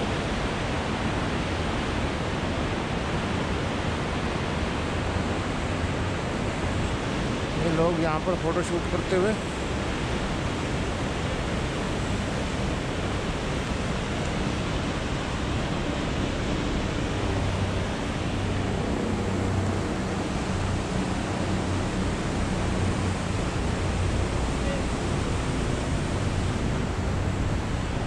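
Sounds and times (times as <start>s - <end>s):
distant helicopter drone: 0.0s - 28.0s
river rushing over boulders: 0.0s - 28.0s.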